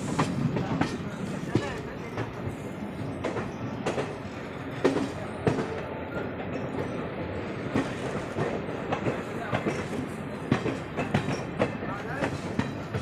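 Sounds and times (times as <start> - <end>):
train rumbling: 0.0 - 13.0
wheels clacking on rail joints: 0.0 - 13.0.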